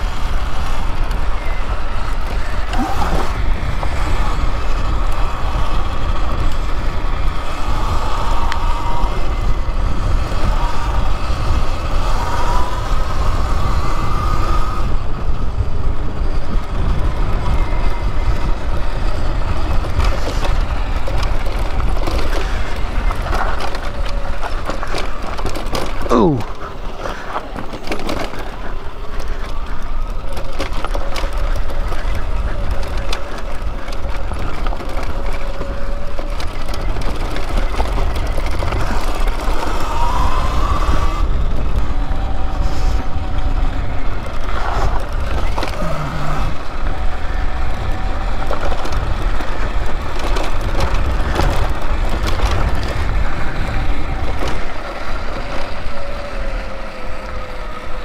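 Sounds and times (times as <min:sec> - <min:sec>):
electric motor whine: 0:00.0 - 0:58.0
wind rumble on microphone: 0:00.0 - 0:58.0.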